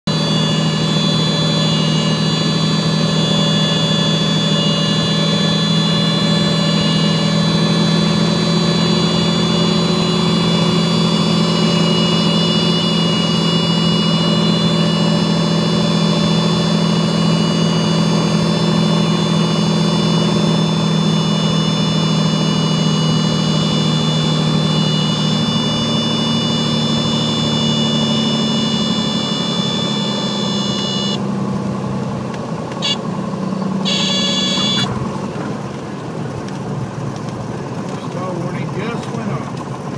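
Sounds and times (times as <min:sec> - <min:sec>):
continuous high-pitched tone: 0:00.0 - 0:31.3, 0:32.8 - 0:35.0
propeller airplane engine droning: 0:00.0 - 0:39.9.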